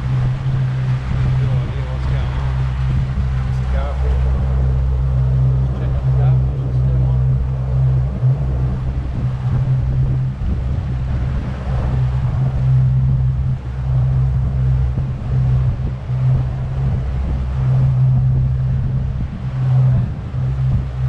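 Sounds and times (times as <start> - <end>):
outboard motors droning: 0.0 - 21.0
rush of boat wake: 0.0 - 21.0
wind buffeting microphone: 0.0 - 21.0.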